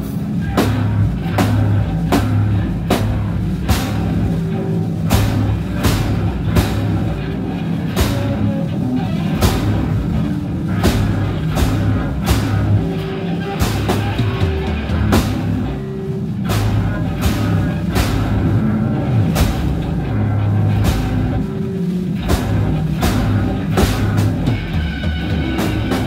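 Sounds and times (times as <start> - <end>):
cymbal crashes: 0.0 - 26.0
live rock band playing: 0.0 - 26.0
sustained low bass notes: 0.0 - 26.0.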